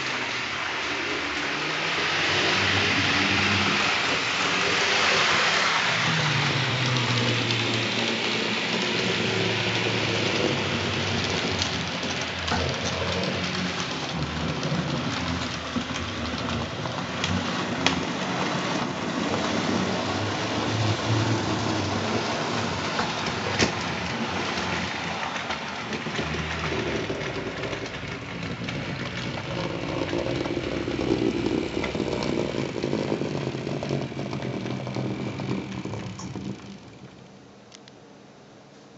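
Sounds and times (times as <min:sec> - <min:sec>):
model train motor hum: 0:00.0 - 0:37.8
rolling wheel noise: 0:00.0 - 0:38.0.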